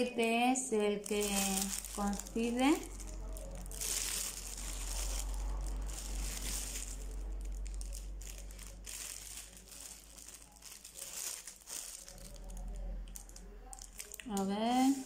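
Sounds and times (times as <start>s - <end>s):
plastic bags crinkling: 0.7s - 15.0s.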